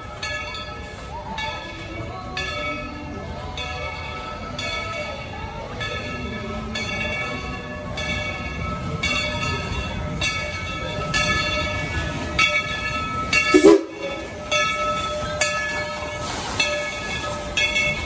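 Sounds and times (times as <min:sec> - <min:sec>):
steam locomotive bell ringing: 0:00.0 - 0:18.0
train rumbling: 0:00.0 - 0:18.0.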